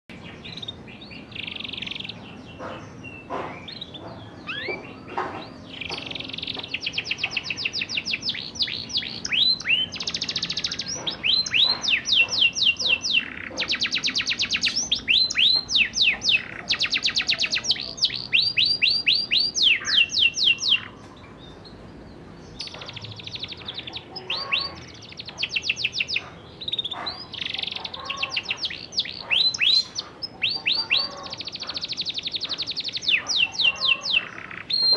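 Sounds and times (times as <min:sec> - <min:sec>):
canary trilling: 0:00.2 - 0:21.8, 0:22.5 - 0:34.9
canary chirps: 0:00.2 - 0:34.9.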